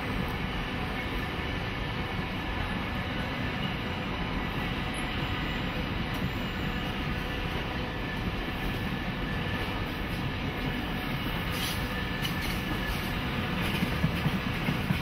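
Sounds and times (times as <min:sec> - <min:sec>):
train wheels rolling on track: 0:00.0 - 0:15.0.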